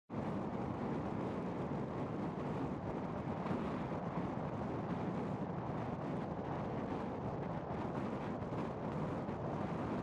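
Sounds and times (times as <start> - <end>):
wind blowing across microphone: 0.1 - 10.0.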